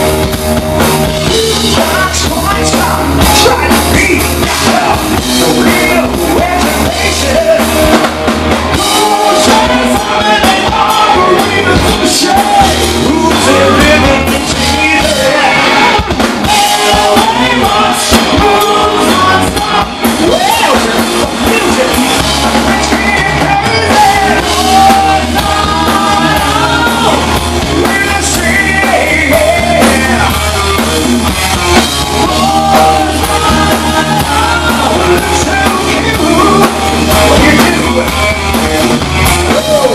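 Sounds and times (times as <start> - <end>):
bass guitar: 0.0 - 39.9
drum kit: 0.0 - 39.9
electric guitars: 0.0 - 39.9
lead vocal singing: 0.0 - 39.9.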